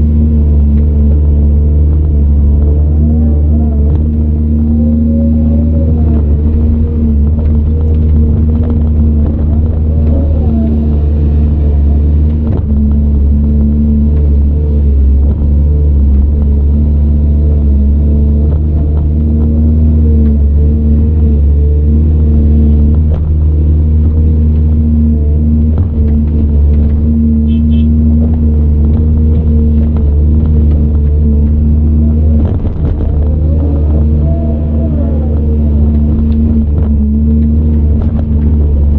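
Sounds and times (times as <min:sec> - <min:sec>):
excavator diesel engine rumbling: 0:00.0 - 0:38.9.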